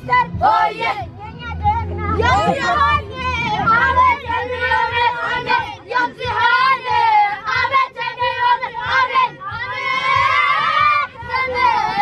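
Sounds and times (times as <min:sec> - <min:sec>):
boys singing a chant: 0:00.0 - 0:12.0.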